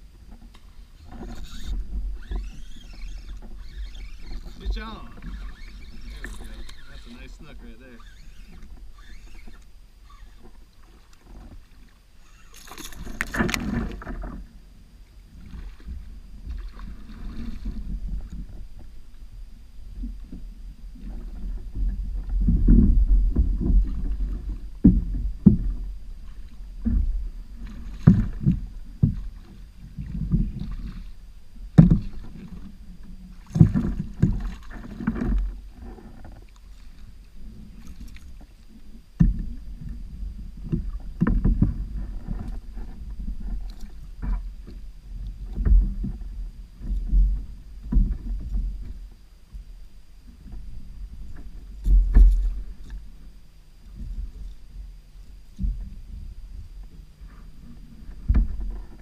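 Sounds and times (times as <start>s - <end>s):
water rumbling against boat: 0.0s - 59.0s.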